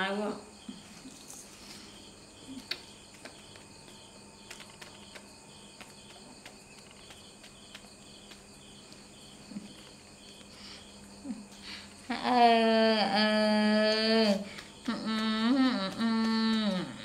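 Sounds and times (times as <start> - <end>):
crickets chirping: 0.0 - 17.0
low steady hum: 0.0 - 17.0.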